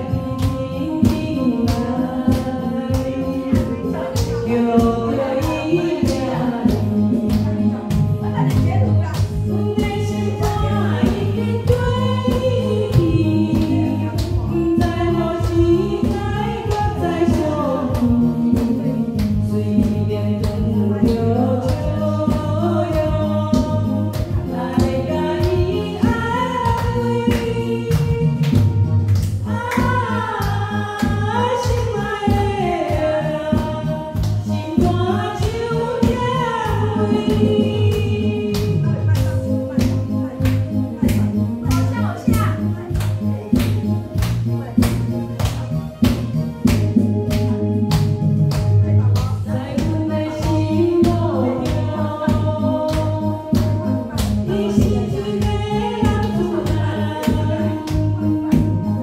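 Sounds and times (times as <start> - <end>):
pop ballad backing track: 0.0 - 59.0
woman singing into microphone: 0.0 - 59.0.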